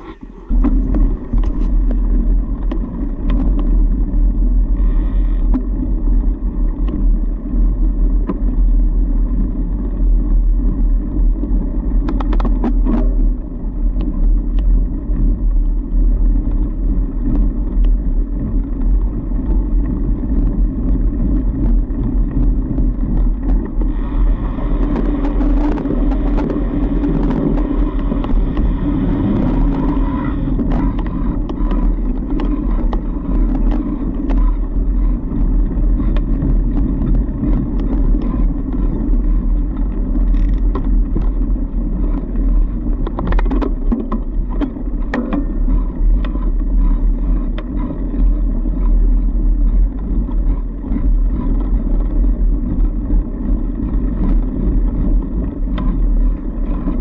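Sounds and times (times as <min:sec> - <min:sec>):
bike tyres rumbling on snow: 0:00.0 - 0:57.0
rough buzzy noise: 0:00.0 - 0:57.0.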